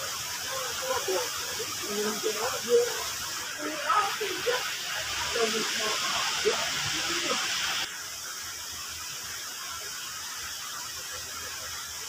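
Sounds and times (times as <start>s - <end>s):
faint steady hiss: 0.0s - 12.0s
loud hiss: 0.0s - 12.0s.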